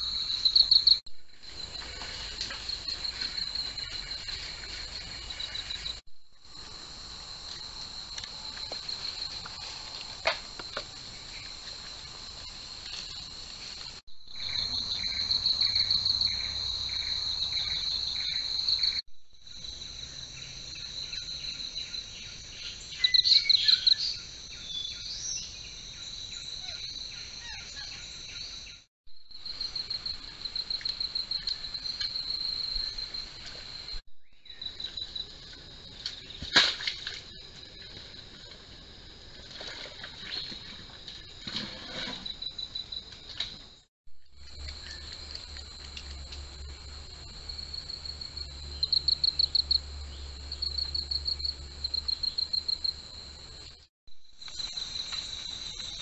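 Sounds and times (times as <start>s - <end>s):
insects buzzing and trilling: 0.0s - 43.8s, 44.4s - 56.0s.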